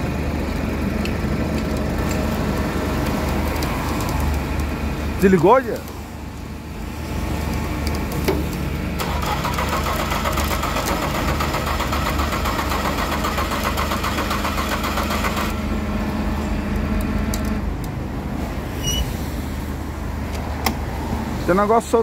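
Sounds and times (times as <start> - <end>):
truck engine running: 0.0 - 18.7.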